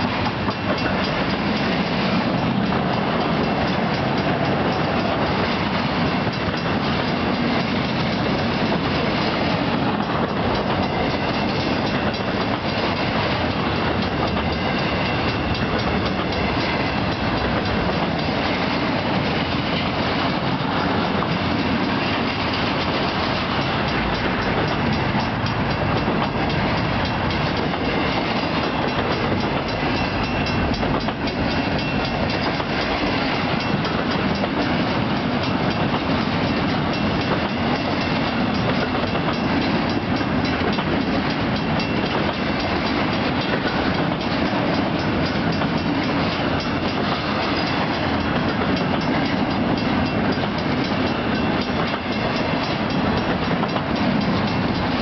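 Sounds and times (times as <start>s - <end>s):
crossing bell ringing: 0.0s - 55.0s
freight train rumbling past: 0.0s - 55.0s
train wheels clattering on rails: 0.0s - 55.0s.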